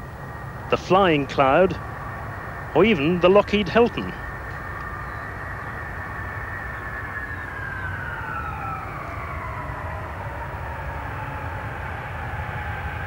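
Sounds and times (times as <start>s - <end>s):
jet aircraft passing overhead: 0.0s - 13.0s.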